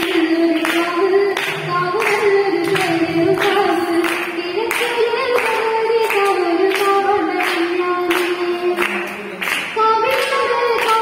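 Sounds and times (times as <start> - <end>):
girl singing into a microphone: 0.0 - 11.0.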